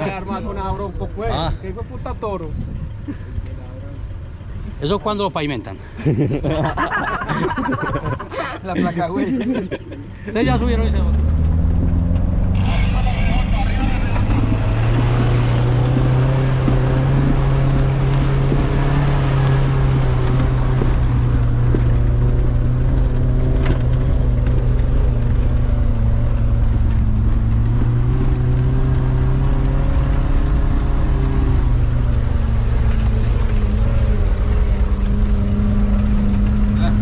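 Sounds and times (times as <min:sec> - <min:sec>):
off-road vehicle engine under load: 0:00.0 - 0:37.0.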